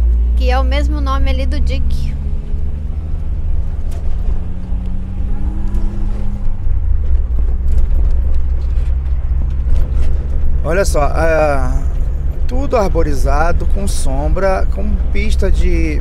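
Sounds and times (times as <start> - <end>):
road noise: 0.0 - 16.0
van engine droning: 0.0 - 16.0.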